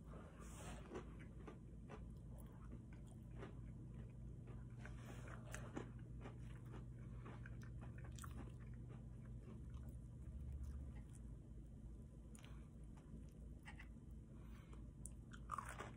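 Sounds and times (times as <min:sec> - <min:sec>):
low steady hum: 0:00.0 - 0:15.9
person chewing: 0:00.5 - 0:15.9.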